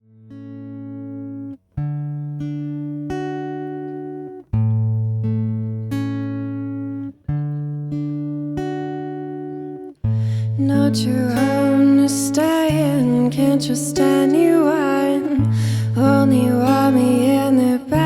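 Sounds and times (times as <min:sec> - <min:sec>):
guitar chords ringing: 0:00.1 - 0:18.0.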